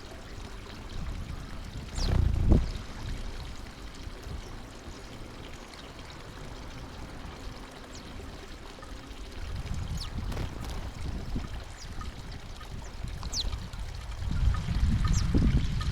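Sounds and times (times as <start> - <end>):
water splashing and trickling: 0.0 - 15.9.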